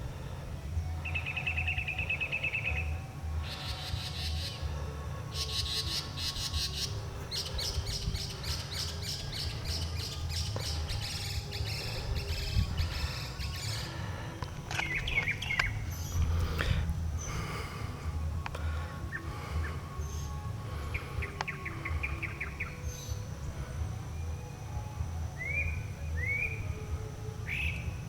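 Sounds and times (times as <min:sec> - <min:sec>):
mockingbird singing: 0:01.0 - 0:04.7, 0:05.3 - 0:17.6, 0:19.0 - 0:24.6, 0:25.3 - 0:28.0.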